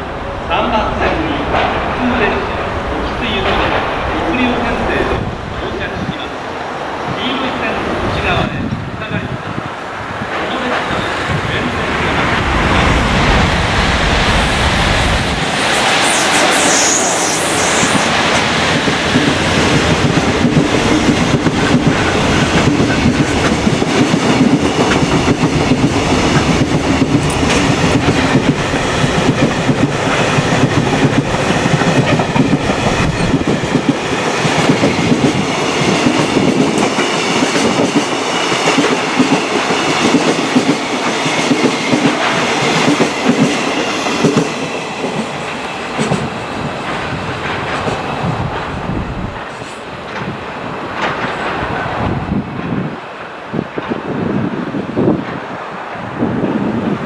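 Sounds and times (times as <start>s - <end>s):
train wheels rumbling: 0.0s - 57.0s
clickety-clack over rail joints: 0.5s - 6.2s, 8.0s - 12.7s, 18.8s - 56.9s.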